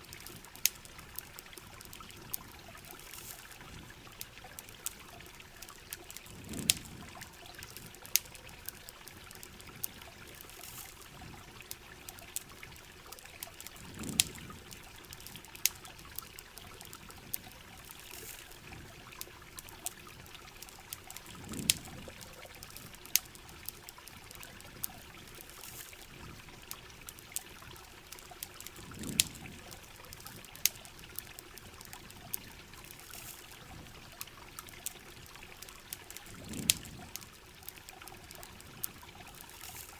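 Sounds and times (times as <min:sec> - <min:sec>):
campfire crackling: 0:00.0 - 0:39.9
rain: 0:00.0 - 0:39.9
running water: 0:00.0 - 0:39.9.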